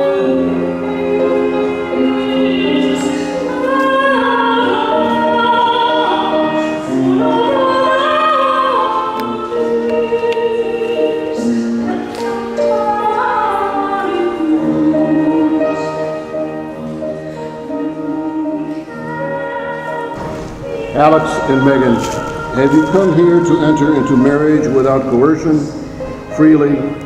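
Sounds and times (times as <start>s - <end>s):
voices singing sacred music: 0.0s - 27.0s.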